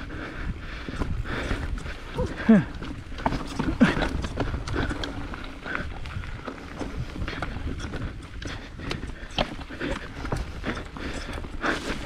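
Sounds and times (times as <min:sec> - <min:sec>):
mountain bike rattling: 0:00.0 - 0:12.0
wind rumble on microphone: 0:00.0 - 0:12.0.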